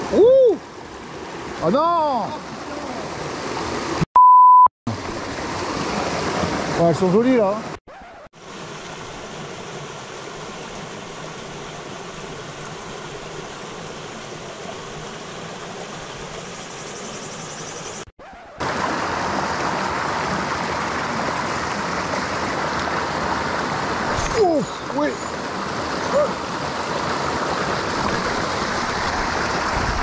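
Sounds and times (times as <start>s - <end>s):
water rushing over rocks: 0.0s - 4.0s, 4.9s - 16.8s, 18.4s - 30.0s.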